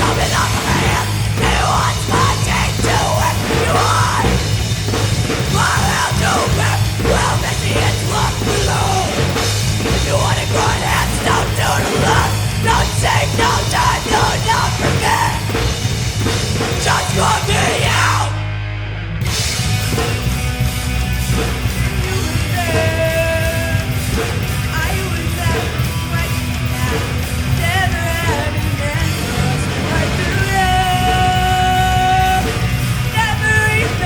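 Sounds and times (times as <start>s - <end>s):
rock band playing: 0.0s - 34.0s.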